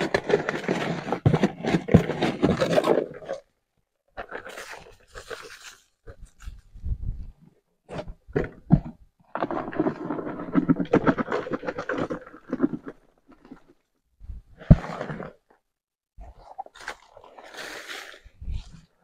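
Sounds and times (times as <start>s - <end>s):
container scraping and rattling: 0.0s - 3.5s, 4.1s - 6.8s, 7.9s - 13.9s, 14.5s - 18.9s.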